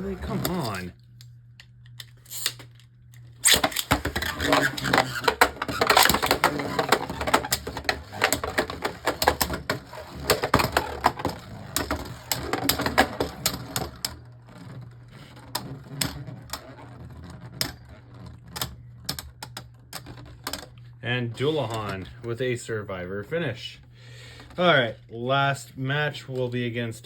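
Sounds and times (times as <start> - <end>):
low whir of spinning tops: 0.0 - 27.0.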